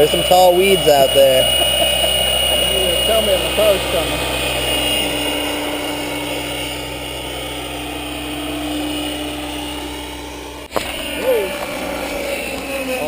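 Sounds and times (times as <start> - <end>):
helicopter turbine and rotor whine: 0.0 - 13.0.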